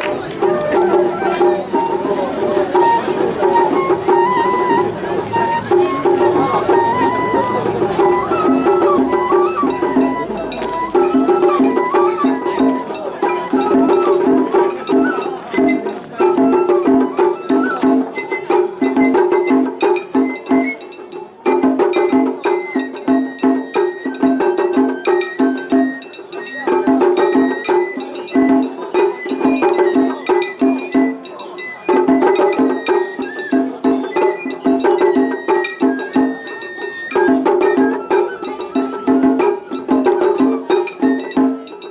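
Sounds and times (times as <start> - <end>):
bamboo flute melody: 0.0 - 41.9
fast drumming: 0.0 - 41.9.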